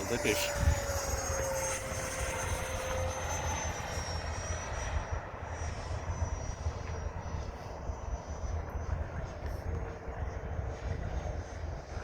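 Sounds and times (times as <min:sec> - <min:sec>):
model jet ducted fan whine: 0:00.0 - 0:12.0.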